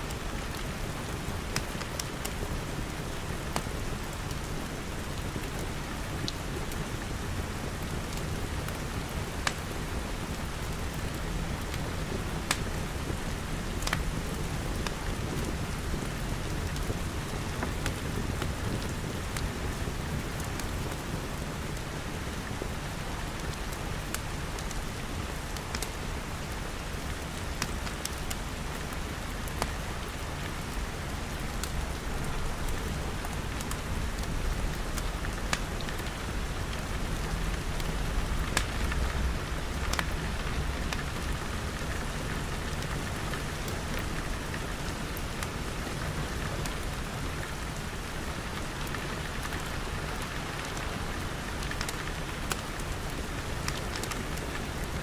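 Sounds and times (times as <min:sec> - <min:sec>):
steady rain falling: 0:00.0 - 0:55.0
wood fire crackling: 0:00.1 - 0:55.0.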